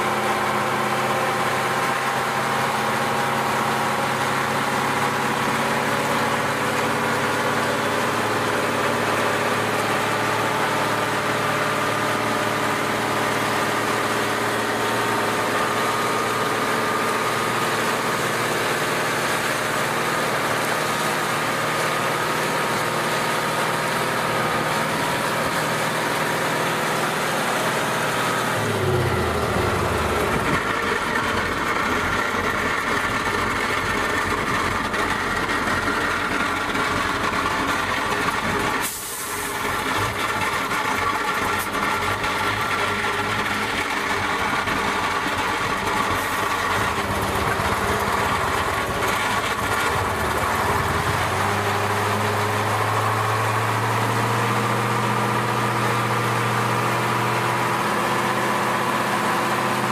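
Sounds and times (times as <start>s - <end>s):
truck diesel engine revving: 0.0s - 59.9s.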